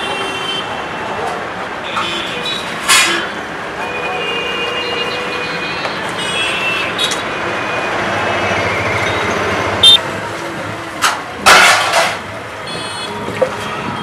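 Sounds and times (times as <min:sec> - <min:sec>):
traffic running: 0:00.0 - 0:14.0.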